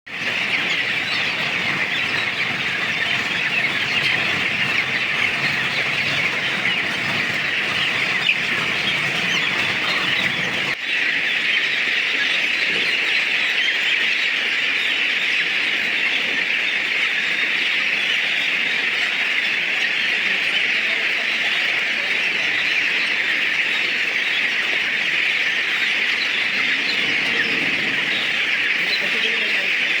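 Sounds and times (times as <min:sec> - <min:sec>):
flock of chickens calling: 0:00.1 - 0:30.0.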